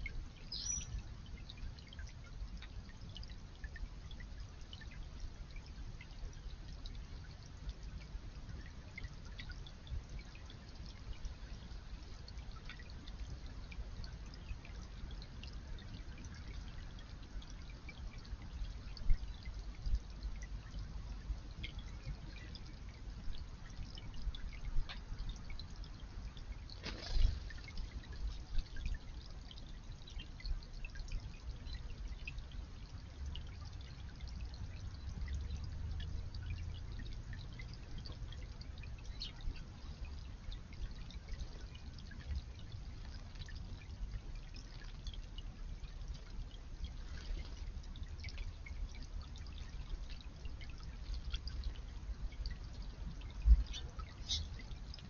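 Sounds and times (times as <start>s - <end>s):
small drips and splashes: 0.0s - 55.0s
water trickling into a pond: 0.0s - 55.0s.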